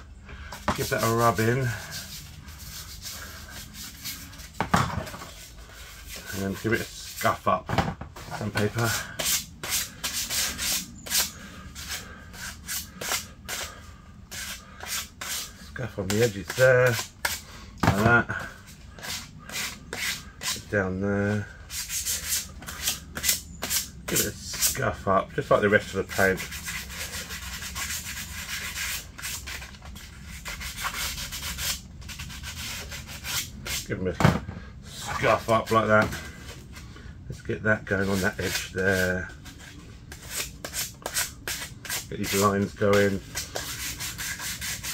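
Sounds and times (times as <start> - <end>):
sandpaper rubbing on paint: 0.8 - 4.6, 5.3 - 7.5, 8.2 - 17.4, 18.0 - 20.7, 21.4 - 34.1, 34.9 - 36.7, 37.8 - 44.9.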